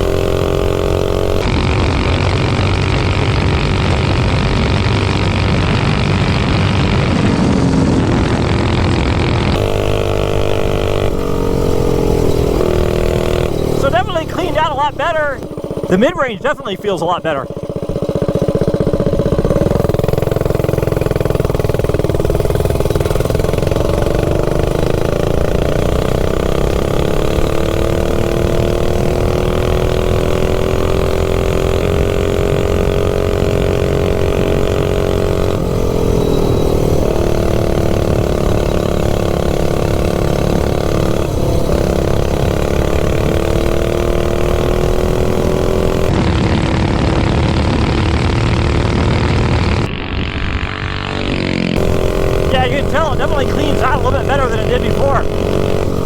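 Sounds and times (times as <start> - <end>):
minibike engine running hard: 0.0 - 56.0.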